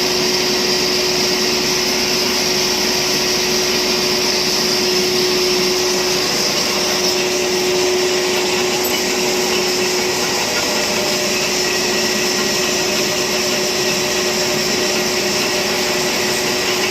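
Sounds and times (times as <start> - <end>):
lathe machine whirring: 0.0 - 16.9.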